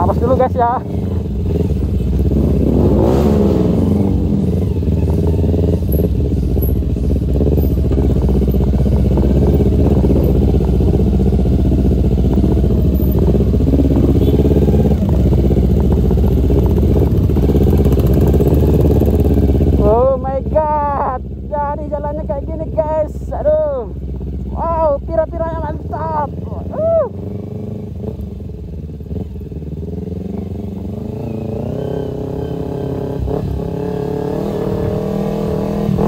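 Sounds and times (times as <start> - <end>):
vehicle engine running: 0.0 - 31.1.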